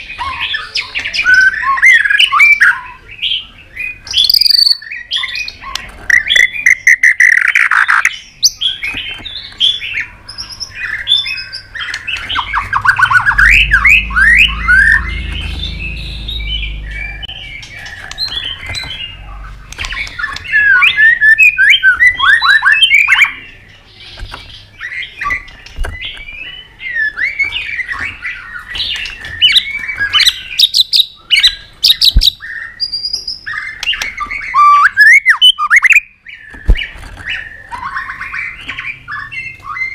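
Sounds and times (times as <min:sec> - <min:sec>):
bird singing whistles and trills: 0:00.0 - 0:39.9
sharp clicking bird notes: 0:05.5 - 0:10.0, 0:11.8 - 0:39.9.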